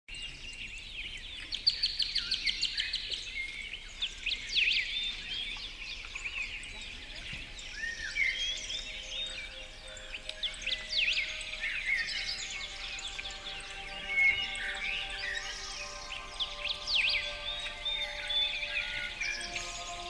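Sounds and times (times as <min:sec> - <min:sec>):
songbirds chirping and singing: 0:00.1 - 0:20.0.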